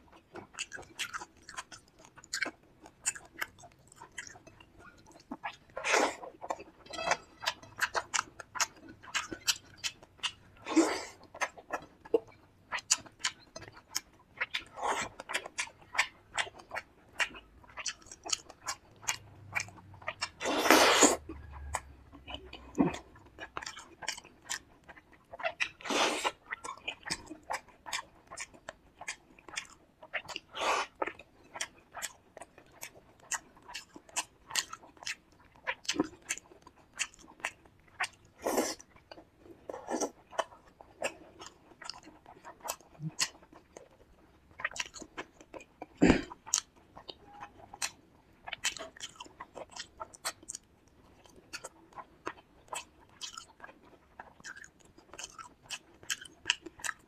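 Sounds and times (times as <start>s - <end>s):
chewing and wet mouth sounds: 0.0s - 57.0s.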